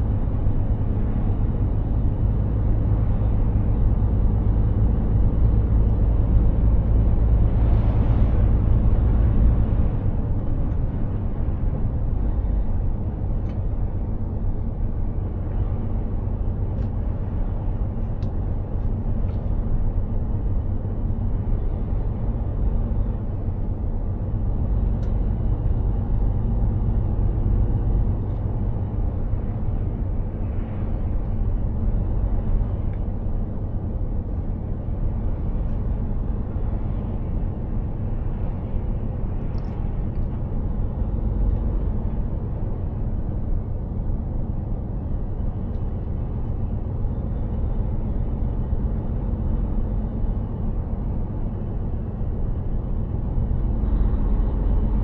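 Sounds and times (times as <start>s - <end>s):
low road rumble: 0.0s - 55.0s
truck diesel engine droning: 0.0s - 55.0s.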